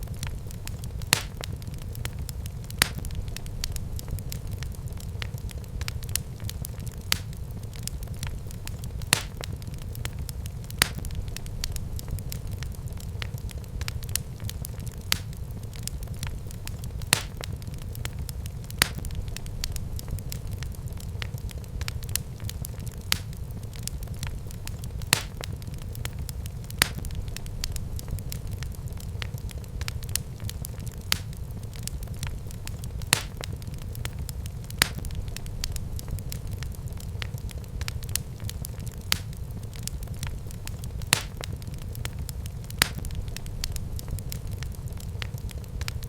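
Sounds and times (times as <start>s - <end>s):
fire crackles and pops: 0.0s - 46.0s
low rumble of fire: 0.0s - 46.0s.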